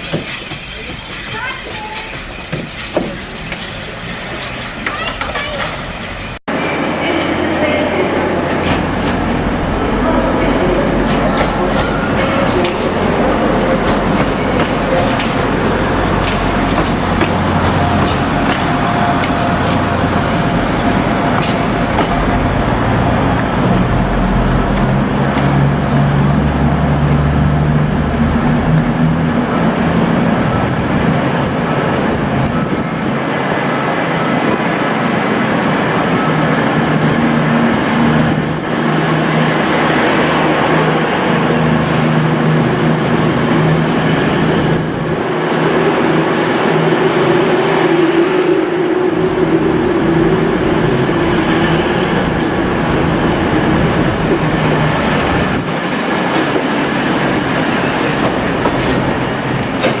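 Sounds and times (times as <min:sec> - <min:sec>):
low train drone: 0:00.0 - 1:00.0
train wheels on rails: 0:00.0 - 1:00.0.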